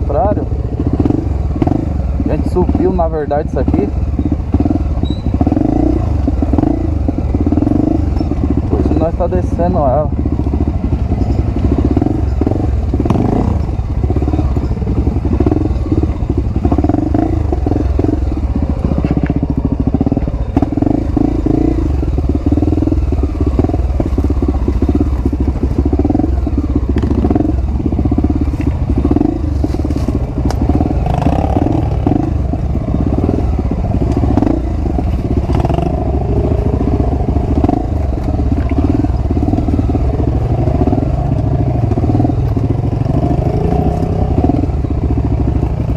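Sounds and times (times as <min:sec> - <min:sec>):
bike rattling over rough ground: 0:00.0 - 0:45.9
motorcycle engine running: 0:00.0 - 0:45.9.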